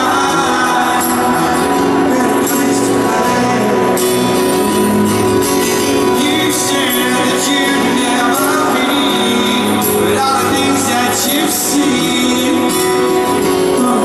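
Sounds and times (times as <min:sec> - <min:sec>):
live rock band: 0:00.0 - 0:14.0
person singing: 0:00.0 - 0:14.0.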